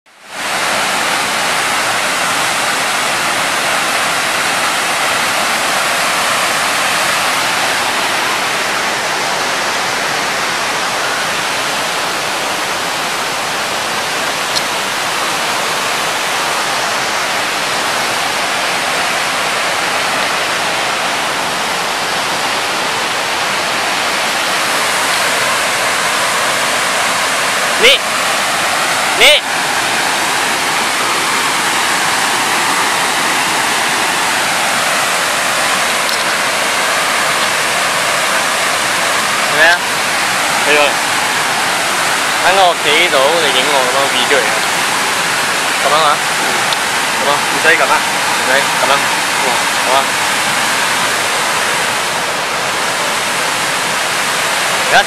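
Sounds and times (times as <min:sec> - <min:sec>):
waterfall rushing: 0:00.1 - 0:55.0.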